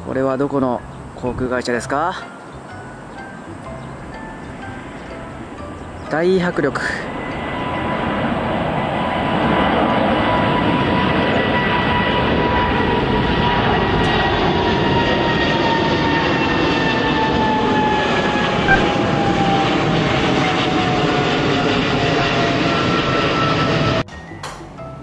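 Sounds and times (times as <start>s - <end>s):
jet airliner roar and whine: 0.0s - 25.0s.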